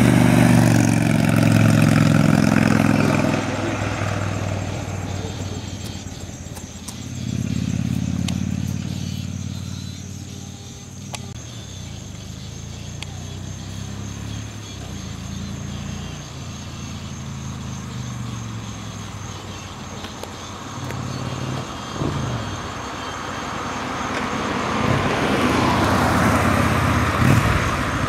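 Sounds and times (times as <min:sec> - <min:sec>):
motorcycle engine approaching: 0:00.0 - 0:28.0.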